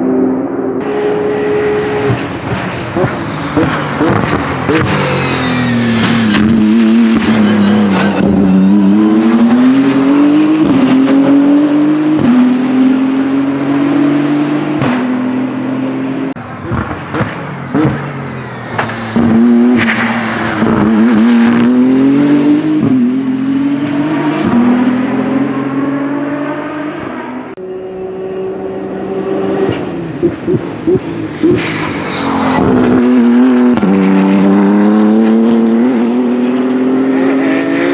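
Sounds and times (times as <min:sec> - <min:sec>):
racing car engine with gear shifts: 0:00.0 - 0:37.9.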